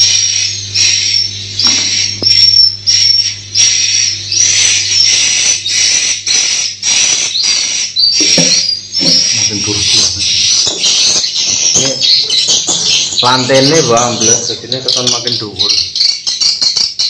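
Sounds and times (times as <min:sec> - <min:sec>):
swiftlets chirping: 0:00.0 - 0:17.0.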